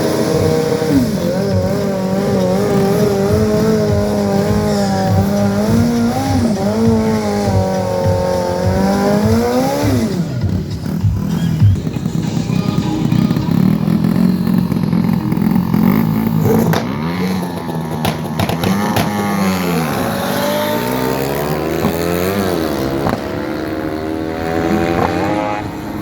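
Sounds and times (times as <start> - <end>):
motorcycle engines revving high: 0.0 - 26.0.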